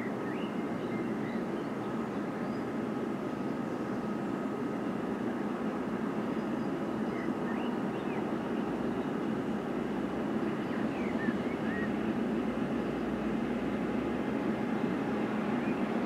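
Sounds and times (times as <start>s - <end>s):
distant diesel locomotive engines droning: 0.0s - 16.0s.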